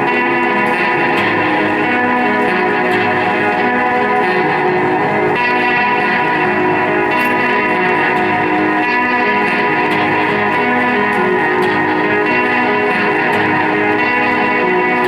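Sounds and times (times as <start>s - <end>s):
live band with guitar chords: 0.0s - 15.0s.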